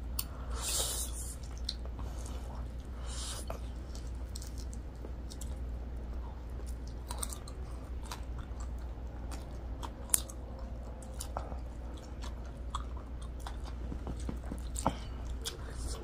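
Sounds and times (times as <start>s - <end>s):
low hum: 0.0s - 16.0s
chewing noodles: 0.2s - 16.0s.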